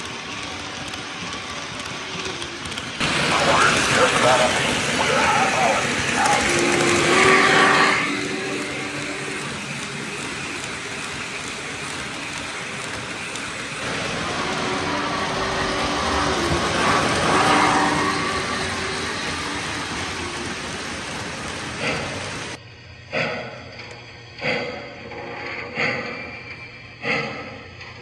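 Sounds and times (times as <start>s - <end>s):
model train rumbling hiss: 0.0s - 23.5s.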